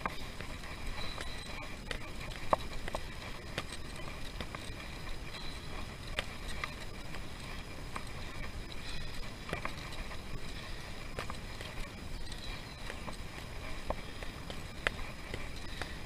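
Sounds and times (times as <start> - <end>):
bicycle clicks and rattles: 0.0 - 16.0
road noise: 0.0 - 16.0
wind: 0.0 - 16.0.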